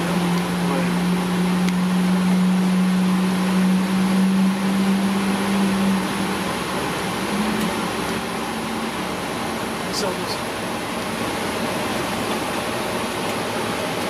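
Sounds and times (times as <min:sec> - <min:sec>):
constant rush of air: 0:00.0 - 0:14.0
steady low hum: 0:00.0 - 0:14.0.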